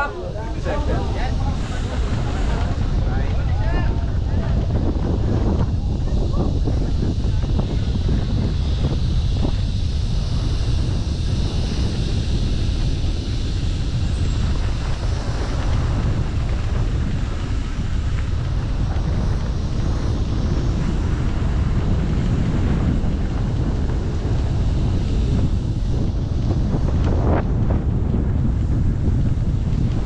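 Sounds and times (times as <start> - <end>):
bike rattling over rough ground: 0.0 - 30.0
wind buffeting microphone: 0.0 - 30.0.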